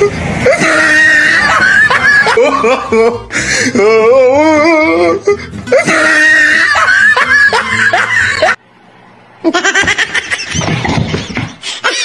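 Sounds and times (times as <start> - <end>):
person laughing: 0.0 - 4.3, 5.7 - 8.6, 9.4 - 12.0.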